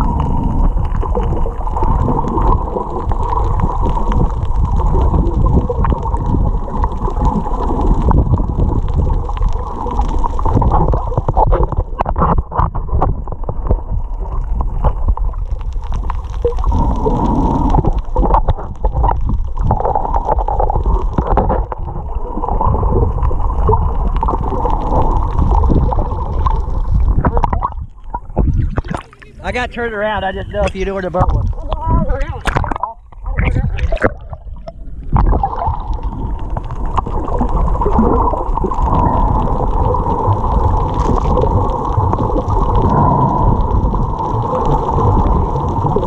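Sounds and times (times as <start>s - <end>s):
muffled underwater sloshing: 0.0s - 46.0s
splashes and bubbles: 0.0s - 46.0s.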